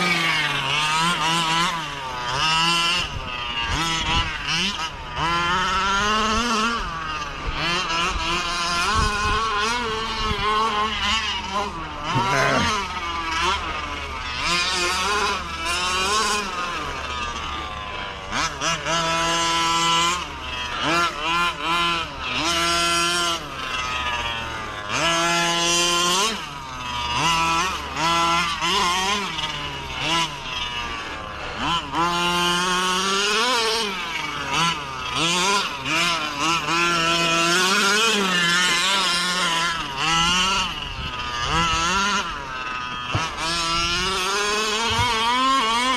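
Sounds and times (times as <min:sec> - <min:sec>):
rc car engine revving: 0:00.0 - 0:45.9.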